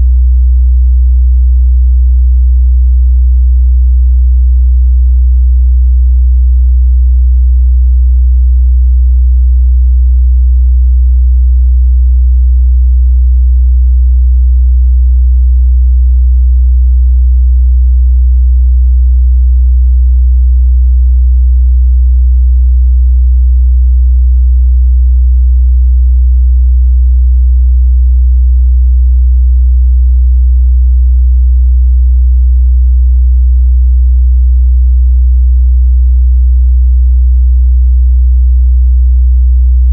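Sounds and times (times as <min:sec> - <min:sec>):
low sine test tone: 0:00.0 - 0:35.5.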